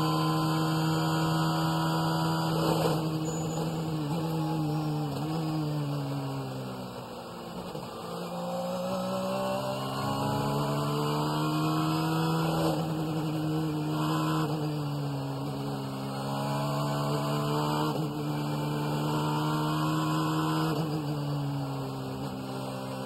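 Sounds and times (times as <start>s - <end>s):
race car engine droning: 0.0s - 23.0s.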